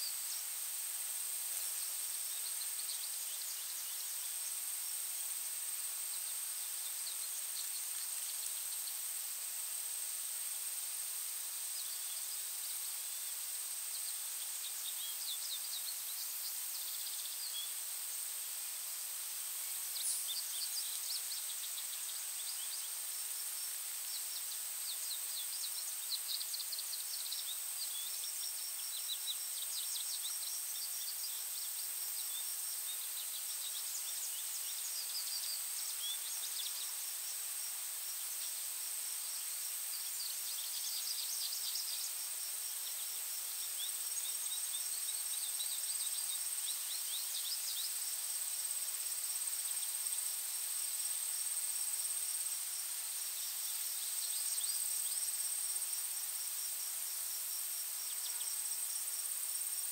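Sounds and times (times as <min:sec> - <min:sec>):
soft hiss: 0:00.0 - 0:59.9.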